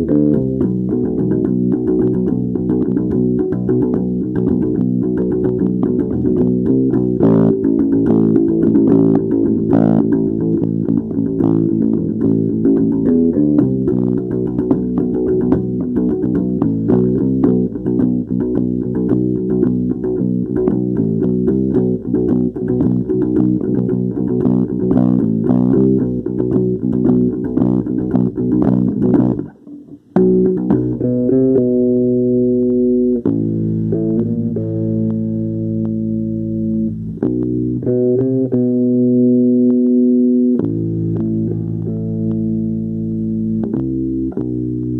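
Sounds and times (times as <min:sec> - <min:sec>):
guitar and bass guitar music: 0:00.0 - 0:44.9.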